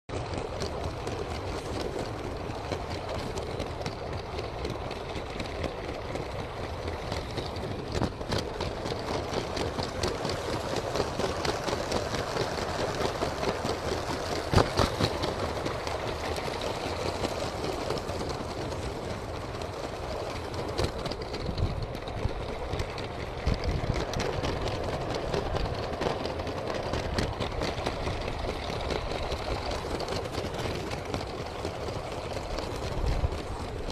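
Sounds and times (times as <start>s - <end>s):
toy train motor and wheels rattling: 0.1s - 33.9s.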